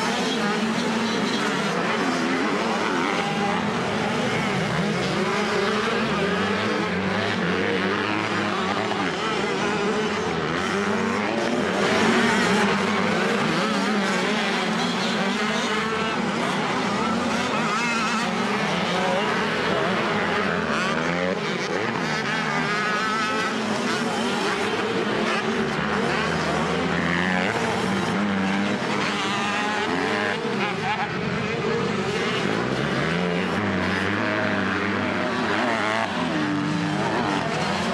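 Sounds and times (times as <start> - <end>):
motocross bikes revving: 0.0 - 37.9.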